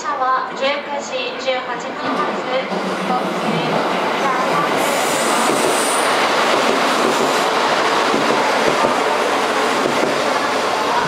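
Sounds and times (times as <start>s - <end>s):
train wheels rushing past: 2.0s - 11.0s.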